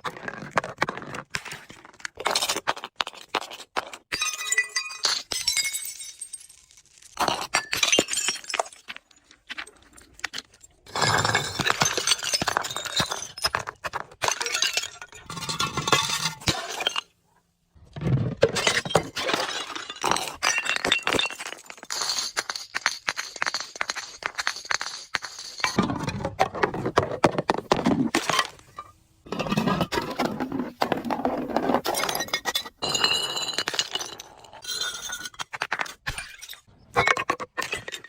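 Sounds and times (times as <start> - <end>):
glass bottles crushing: 4.1 - 17.2, 18.0 - 38.0.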